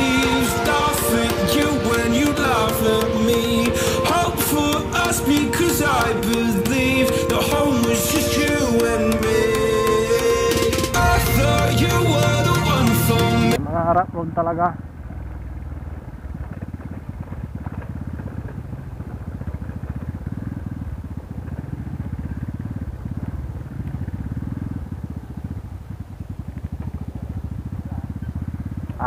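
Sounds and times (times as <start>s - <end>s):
minibike engine pulsing exhaust: 0.0s - 29.0s.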